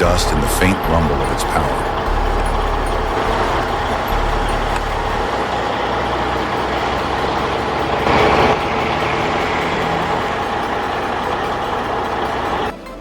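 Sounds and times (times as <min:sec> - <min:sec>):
truck diesel engine idling: 0:00.0 - 0:13.0.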